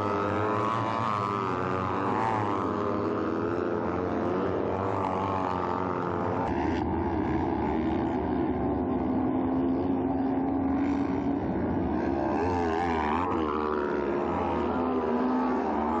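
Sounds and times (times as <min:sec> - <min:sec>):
racing buggy engines revving: 0:00.0 - 0:16.0.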